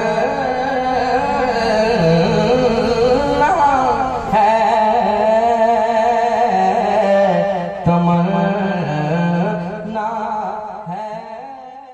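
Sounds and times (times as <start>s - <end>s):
man singing devotional poem: 0.0s - 11.9s.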